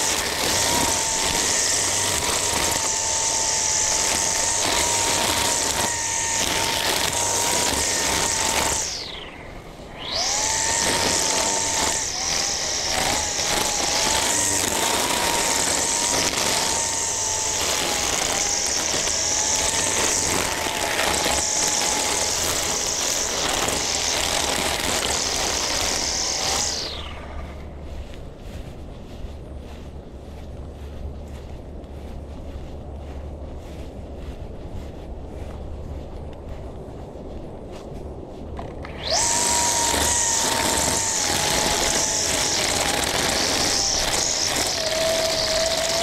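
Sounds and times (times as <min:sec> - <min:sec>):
string trimmer cutting grass: 0:00.0 - 0:46.0.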